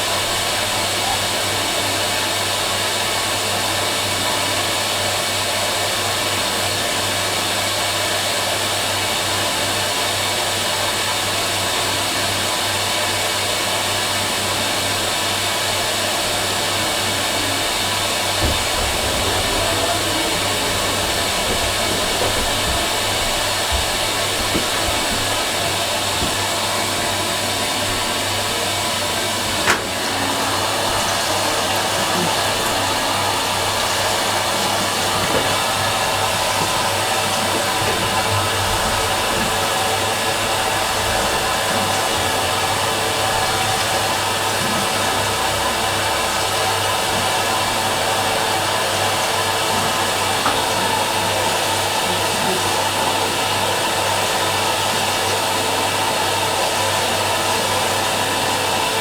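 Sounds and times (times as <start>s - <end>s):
washing machine whirring hum: 0.0s - 59.0s.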